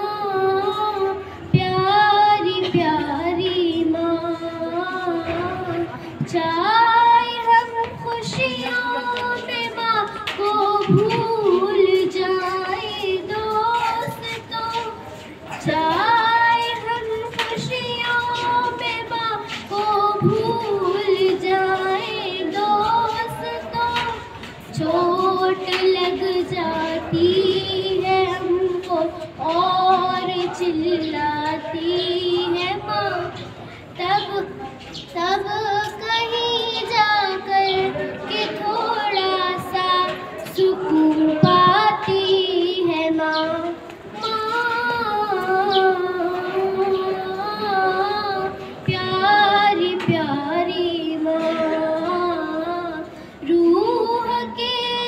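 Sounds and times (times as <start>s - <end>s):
girl singing into microphone: 0.0s - 55.0s.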